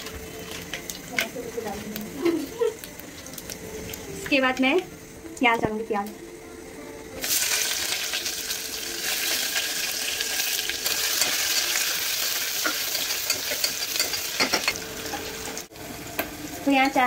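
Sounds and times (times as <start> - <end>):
onions sizzling in hot oil: 0.0 - 6.1, 7.1 - 17.0.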